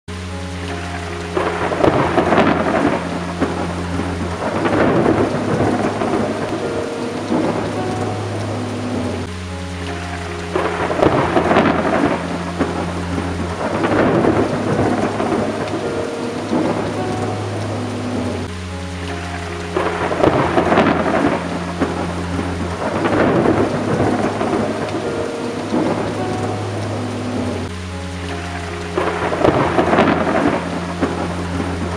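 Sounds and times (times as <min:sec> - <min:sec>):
steady rain: 0:00.1 - 0:31.9
rolling thunder: 0:00.8 - 0:09.3, 0:09.9 - 0:18.5, 0:19.1 - 0:27.7, 0:28.3 - 0:31.9.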